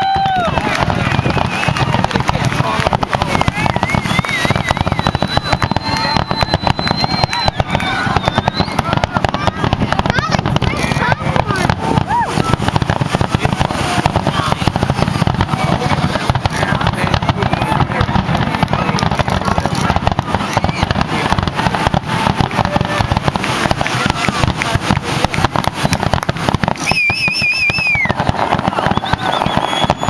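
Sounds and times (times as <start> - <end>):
fireworks bangs and crackling: 0.0 - 30.0
warbling firework whistle: 0.0 - 30.0.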